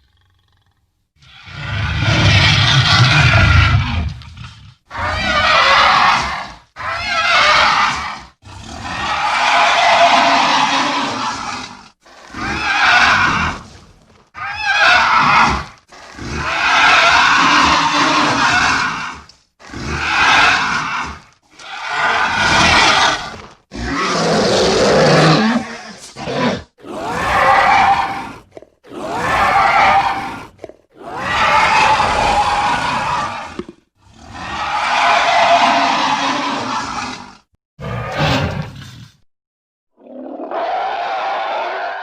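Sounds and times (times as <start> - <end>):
dinosaur roars: 0.0 - 13.8, 14.4 - 39.2, 40.0 - 42.0.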